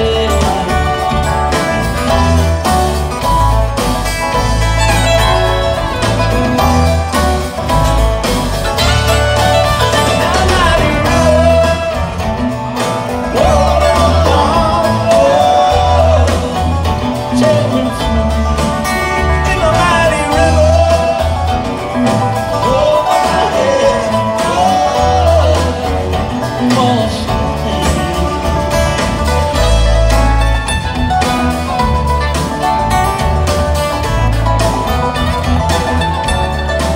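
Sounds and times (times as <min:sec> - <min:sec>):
acoustic guitar: 0:00.0 - 0:36.9
banjo: 0:00.0 - 0:36.9
upright bass: 0:00.0 - 0:36.9.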